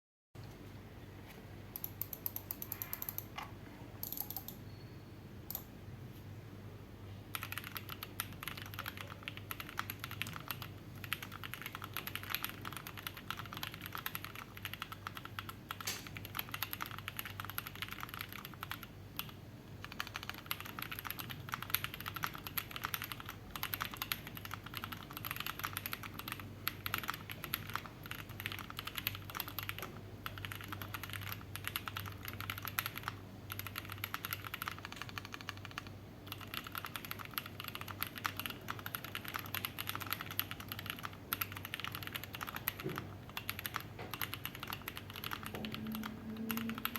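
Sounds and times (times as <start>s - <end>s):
low steady hum: 0.4s - 46.9s
mechanical keyboard typing: 1.8s - 4.6s, 5.5s - 5.7s, 7.3s - 46.9s.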